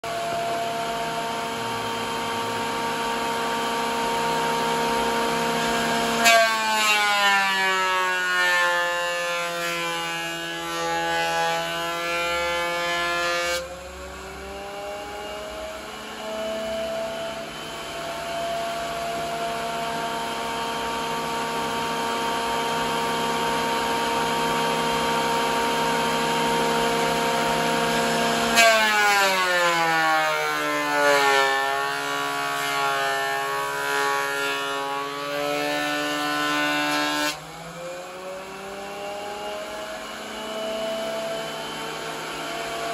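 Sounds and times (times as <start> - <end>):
thickness planer whining: 0.0 - 42.9.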